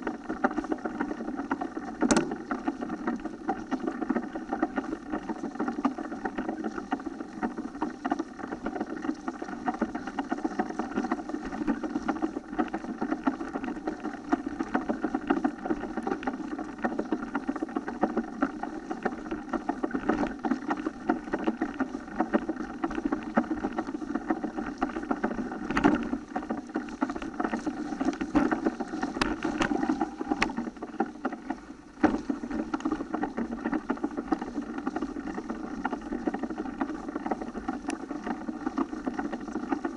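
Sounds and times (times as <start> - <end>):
bike rattling rumble on trail: 0.0 - 39.9.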